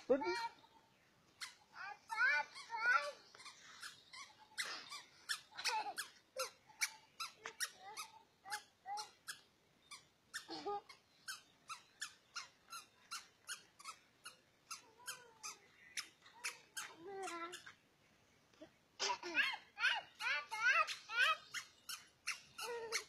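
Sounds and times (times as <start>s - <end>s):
squeaky shoes squeaking: 1.4s - 17.8s, 19.4s - 23.0s.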